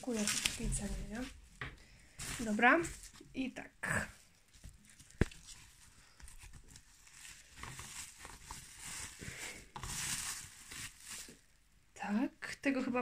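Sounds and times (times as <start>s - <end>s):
packing foam rustling and crinkling: 0.0s - 3.3s, 4.2s - 11.6s.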